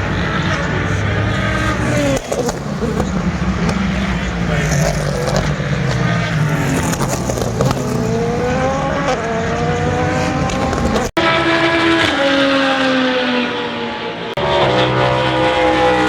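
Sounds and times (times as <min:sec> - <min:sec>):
race car engine accelerating: 0:00.0 - 0:16.0
race car passing: 0:00.0 - 0:16.0.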